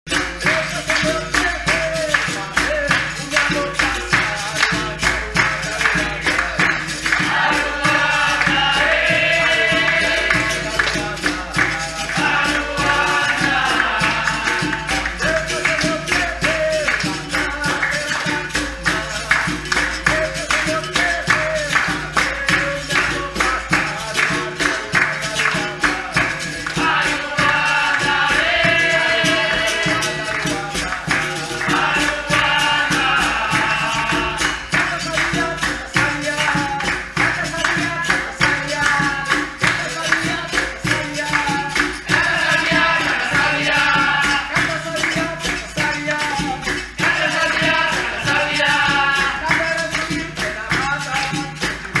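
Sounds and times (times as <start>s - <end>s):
frame drum percussion: 0.1s - 52.0s
group singing: 0.1s - 52.0s.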